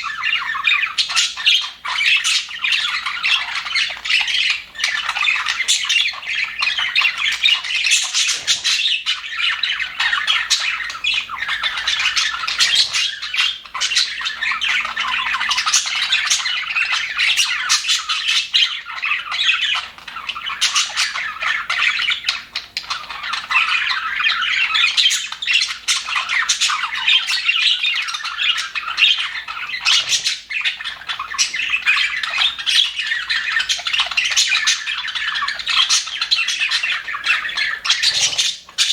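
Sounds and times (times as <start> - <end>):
flock of budgerigars chattering: 0.0 - 38.9.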